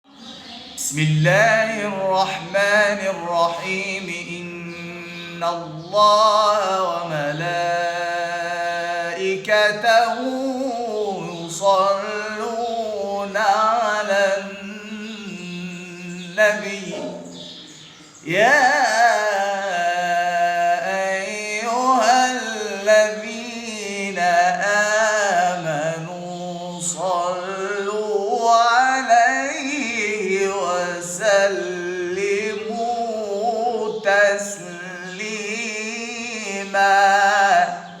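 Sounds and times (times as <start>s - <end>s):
man reciting melodically: 0.0s - 38.0s.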